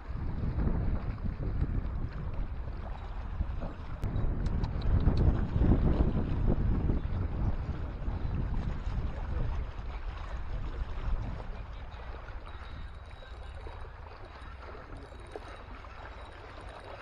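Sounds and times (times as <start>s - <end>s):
faint water at rocky shore: 0.0s - 17.0s
wind rumbling on microphone: 0.0s - 17.0s.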